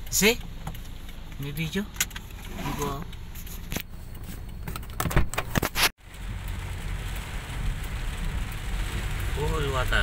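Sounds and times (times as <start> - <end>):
car cabin rumble while driving: 0.0 - 10.0
rain on car: 0.0 - 10.0.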